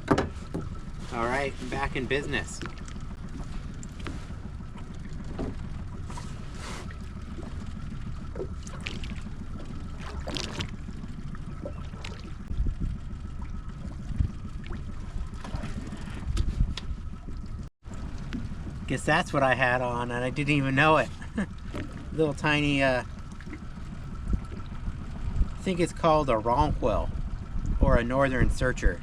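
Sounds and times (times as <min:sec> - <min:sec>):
wind and water rumble: 0:00.0 - 0:29.0.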